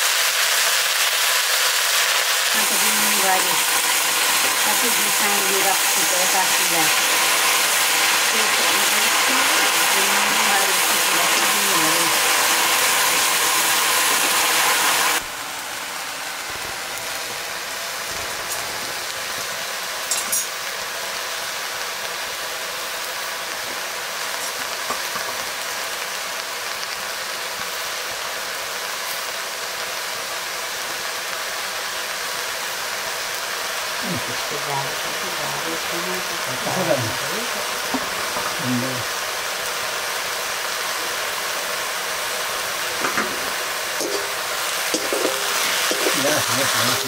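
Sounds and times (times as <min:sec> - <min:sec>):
food sizzling in a hot pan: 0:00.0 - 0:47.0.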